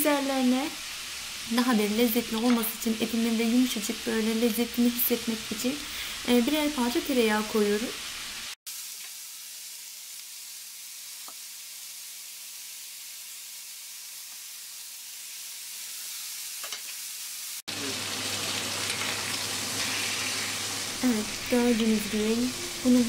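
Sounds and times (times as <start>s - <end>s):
steaks sizzling in grill pan: 0.1s - 23.0s.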